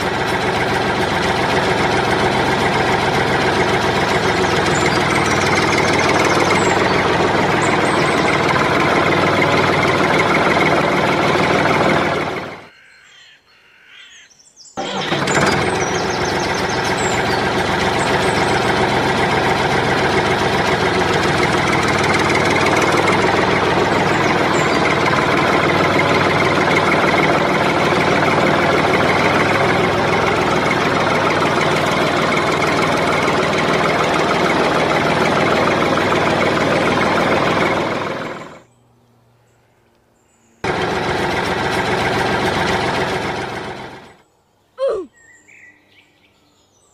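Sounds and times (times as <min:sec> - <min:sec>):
toy tractor engine drone: 0:00.0 - 0:12.7, 0:14.8 - 0:38.7, 0:40.6 - 0:44.2.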